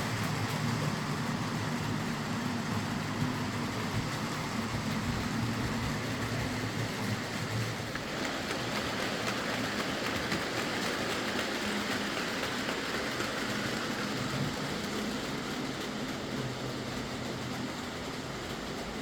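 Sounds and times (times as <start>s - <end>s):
model train motor hum: 0.0s - 19.0s
model train wheels rolling on rails: 0.0s - 19.0s.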